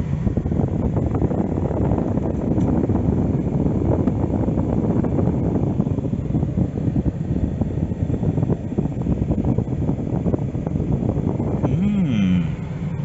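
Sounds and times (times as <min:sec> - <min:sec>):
car interior rumbling: 0:00.0 - 0:13.0.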